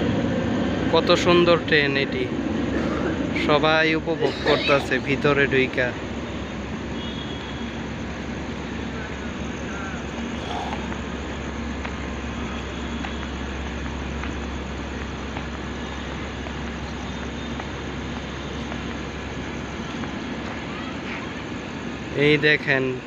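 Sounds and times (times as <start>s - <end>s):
diesel train engines humming: 0.0s - 23.0s.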